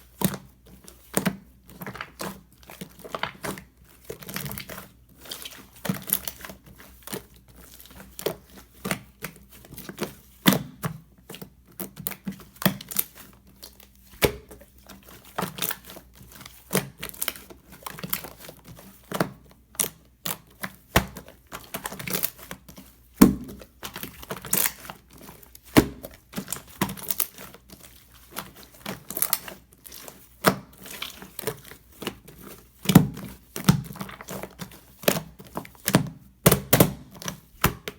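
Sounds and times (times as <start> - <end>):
slime being kneaded: 0.0 - 37.9.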